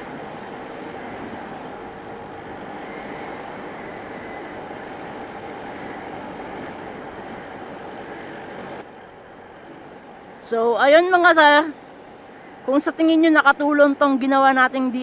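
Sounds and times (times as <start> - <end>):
wind noise: 0.0 - 13.6
motorcycle riding noise: 0.0 - 14.3.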